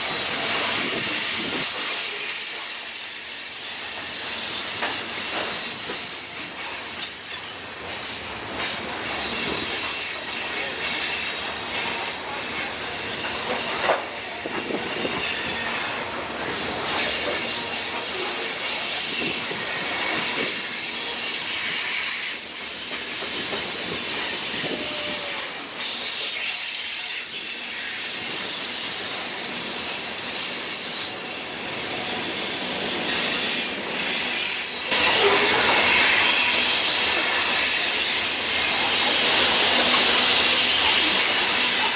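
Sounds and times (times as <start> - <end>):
steel wheels squealing on rail: 0.0 - 41.9.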